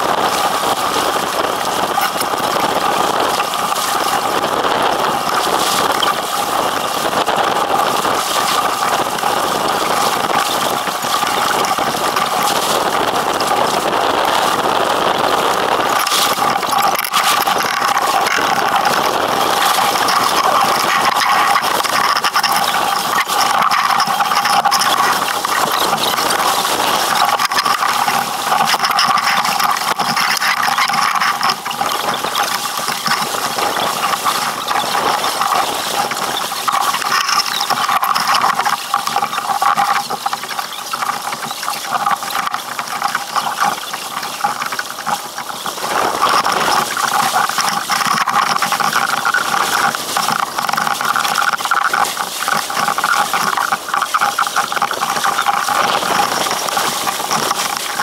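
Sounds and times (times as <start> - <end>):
water rushing along hull: 0.0 - 58.0
wind noise: 0.0 - 58.0.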